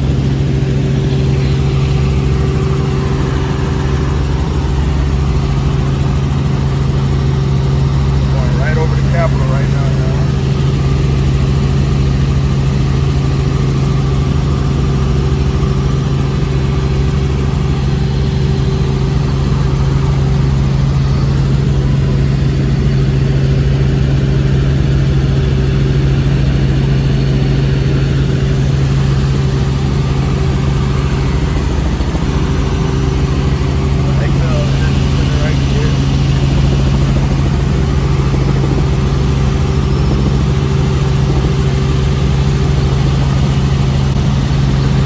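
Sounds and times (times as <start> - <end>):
helicopter drone: 0.0 - 45.0.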